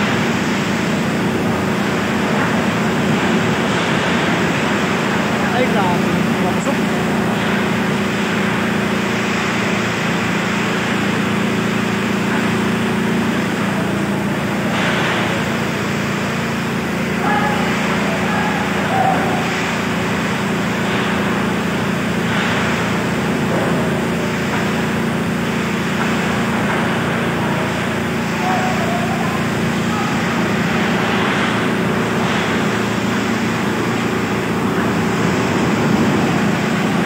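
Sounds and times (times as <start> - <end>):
heavy rain on metal roof: 0.0 - 37.0.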